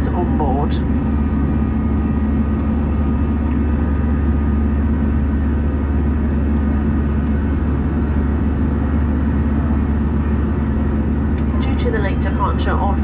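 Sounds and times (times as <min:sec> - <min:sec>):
aircraft engines droning: 0:00.0 - 0:13.0
constant hum: 0:00.0 - 0:13.0.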